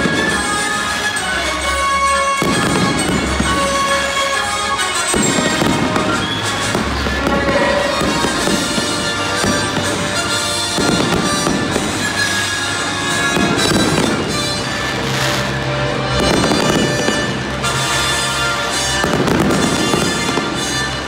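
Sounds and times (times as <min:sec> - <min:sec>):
fireworks bursting with pops and booms: 0:00.0 - 0:21.0
fireworks fountains hissing: 0:00.0 - 0:21.0
loud music: 0:00.0 - 0:21.0.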